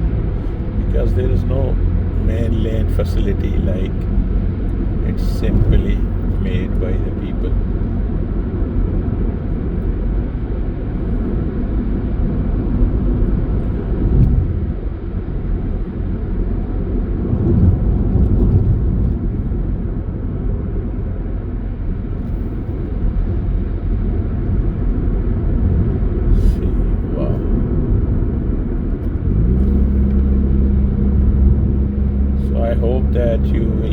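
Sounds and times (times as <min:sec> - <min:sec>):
vehicle road and engine rumble: 0:00.0 - 0:33.9.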